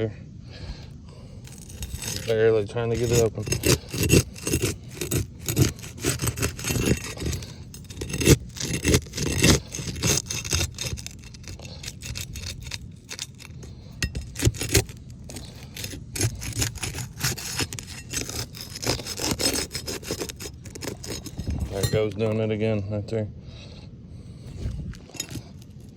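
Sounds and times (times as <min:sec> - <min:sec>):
roof shingle scraping and crackling: 0:01.1 - 0:22.4.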